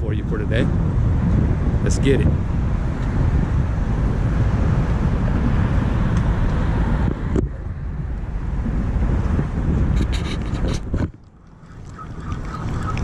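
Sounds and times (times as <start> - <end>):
traffic rumble on bridge: 0.0 - 13.0
wind on microphone: 0.0 - 13.0.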